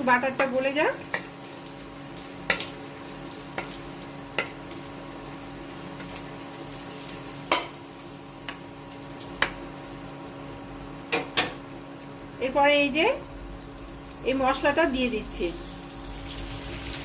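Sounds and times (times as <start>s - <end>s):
butter sizzling in a pan: 0.0s - 12.2s, 13.2s - 17.0s
constant hum: 0.0s - 17.0s.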